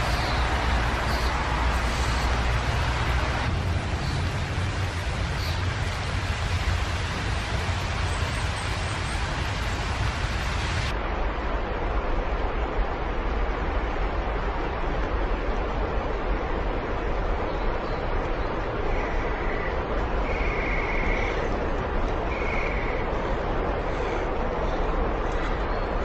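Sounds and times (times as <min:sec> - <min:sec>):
steady rushing noise with low rumble: 0:00.0 - 0:26.0.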